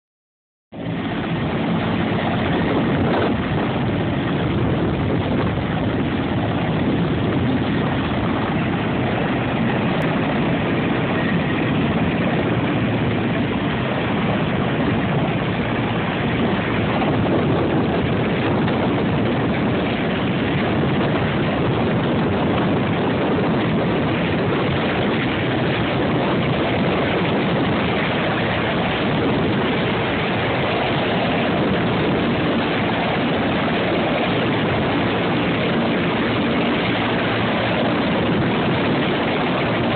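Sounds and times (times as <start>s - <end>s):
helicopter engine and rotor: 0.8s - 39.9s.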